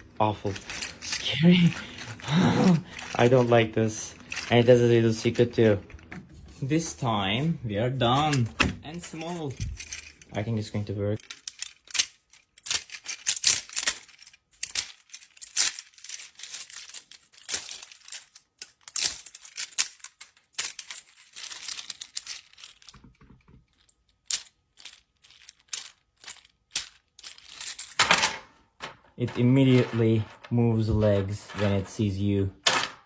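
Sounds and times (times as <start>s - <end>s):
plastic parts clicking and scraping: 0.0s - 10.6s, 11.2s - 33.0s.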